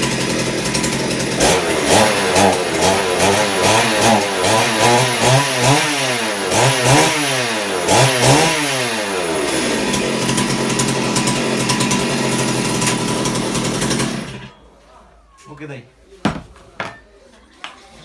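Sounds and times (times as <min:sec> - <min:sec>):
chainsaw revving: 0:00.0 - 0:14.5.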